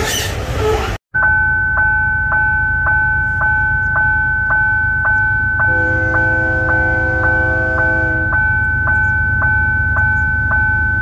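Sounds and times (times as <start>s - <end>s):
level-crossing warning bell ringing: 1.1s - 11.0s
chord of steady tones: 1.2s - 11.0s.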